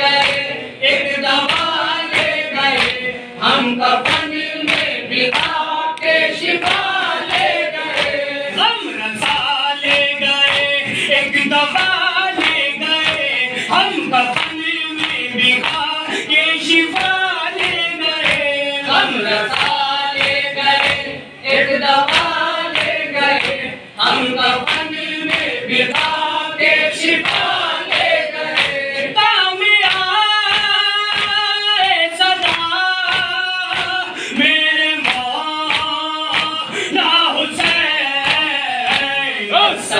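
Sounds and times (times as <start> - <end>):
men singing in chorus: 0.0 - 39.9.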